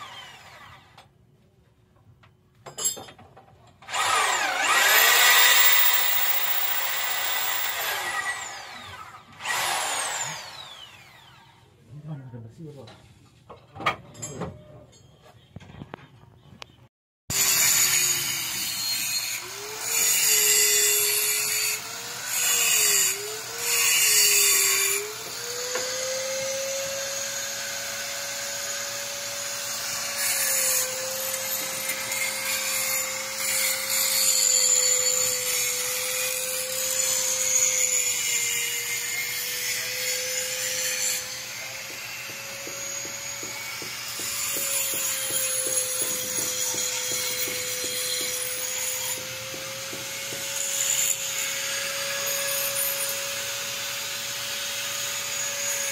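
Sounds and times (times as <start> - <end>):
angle grinder grinding metal: 3.9 - 11.3, 17.3 - 55.9.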